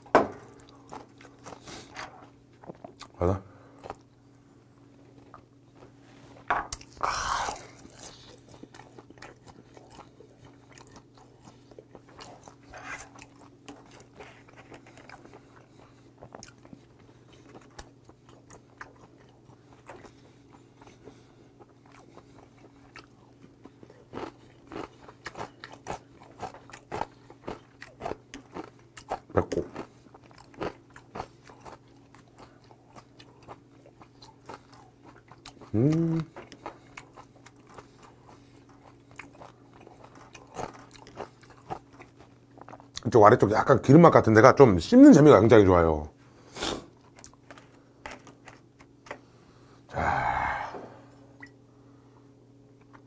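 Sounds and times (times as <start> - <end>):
wet chewing and crunching: 0.0 - 4.3, 5.0 - 43.4, 46.8 - 49.2
low steady hum: 0.0 - 53.0.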